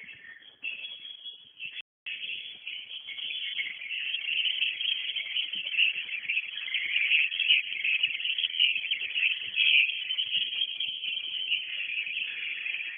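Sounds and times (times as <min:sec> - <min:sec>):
swiftlets twittering: 0:00.0 - 0:12.9.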